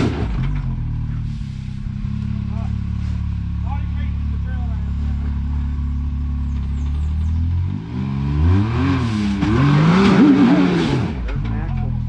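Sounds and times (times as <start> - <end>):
engine idling and revving: 0.0 - 12.0.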